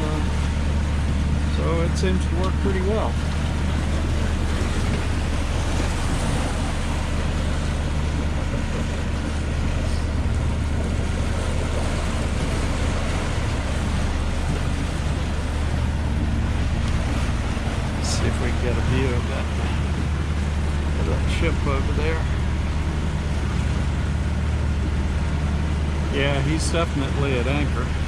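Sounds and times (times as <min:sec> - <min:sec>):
boat engine humming: 0:00.0 - 0:28.0
sea water rushing: 0:00.0 - 0:28.0.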